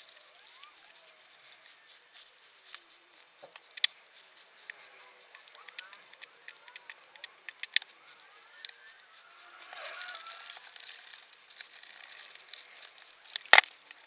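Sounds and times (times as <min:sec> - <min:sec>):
rustling scrubbing noise: 0:00.0 - 0:14.0.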